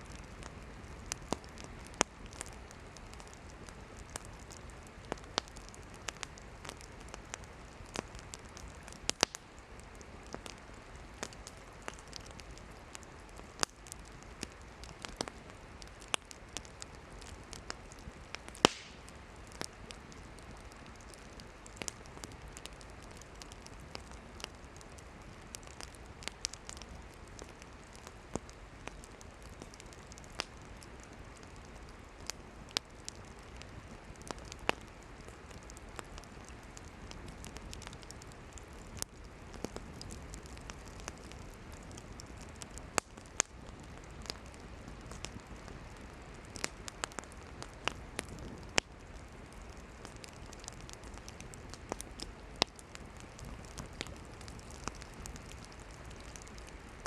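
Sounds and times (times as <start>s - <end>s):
firewood crackling and popping: 0.0s - 57.0s
steady low hiss: 0.0s - 57.0s.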